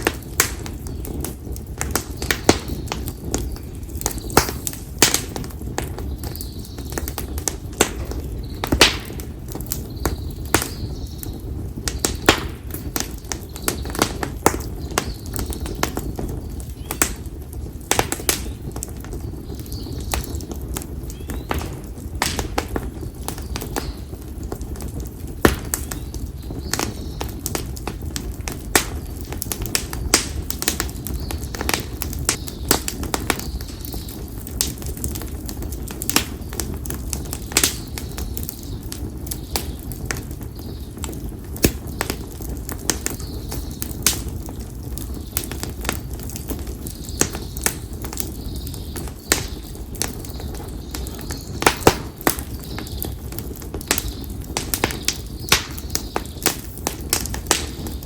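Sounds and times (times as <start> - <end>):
campfire crackling and popping: 0.0 - 58.0
low rumble of fire: 0.0 - 58.0.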